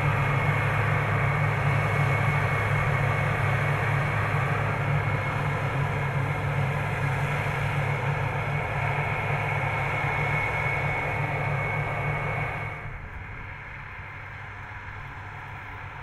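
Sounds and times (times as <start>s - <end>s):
heavy engine hum: 0.0s - 16.0s.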